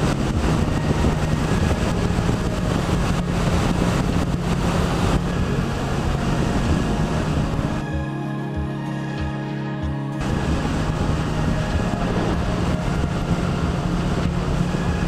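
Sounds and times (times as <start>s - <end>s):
background music: 0.0s - 15.0s
wind noise on microphone: 0.0s - 15.0s.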